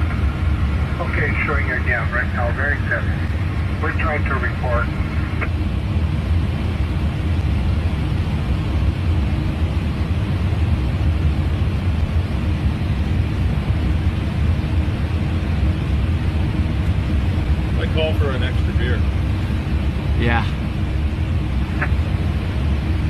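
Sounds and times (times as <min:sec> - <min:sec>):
cockpit airflow and engine rumble: 0:00.0 - 0:23.0.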